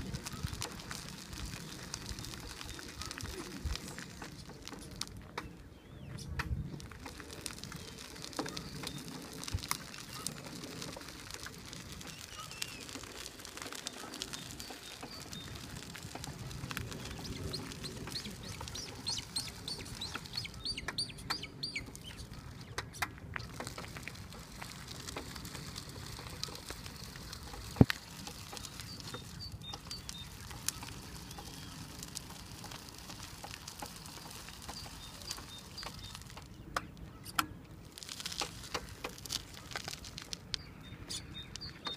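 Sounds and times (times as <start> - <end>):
birds chirping: 0.0 - 41.9
wheelchair tyres crunching gravel: 0.0 - 41.9.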